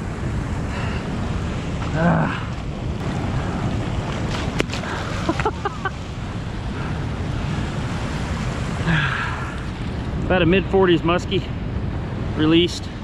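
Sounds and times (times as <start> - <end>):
wind buffeting microphone: 0.0 - 13.0
water rushing from spillway: 0.7 - 11.5.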